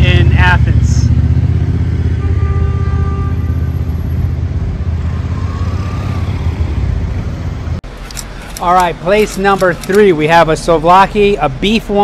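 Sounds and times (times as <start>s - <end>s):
car engines passing: 0.0s - 12.0s
low traffic rumble: 0.0s - 12.0s.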